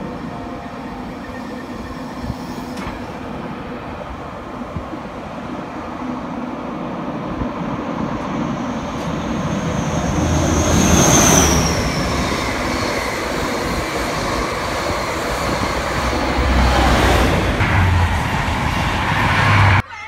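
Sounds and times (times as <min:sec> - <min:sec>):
train wheels rumbling on rails: 0:00.0 - 0:19.8.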